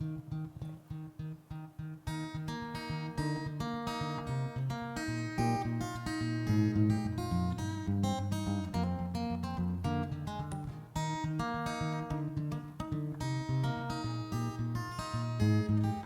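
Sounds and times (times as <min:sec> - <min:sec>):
acoustic guitar strumming: 0:00.0 - 0:16.0
picked melody and bass: 0:00.0 - 0:16.0.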